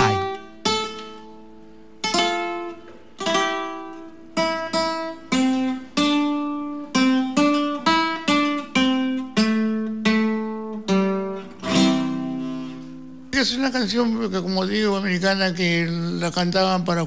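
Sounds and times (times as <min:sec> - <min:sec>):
classical guitar plucking: 0:00.0 - 0:14.3.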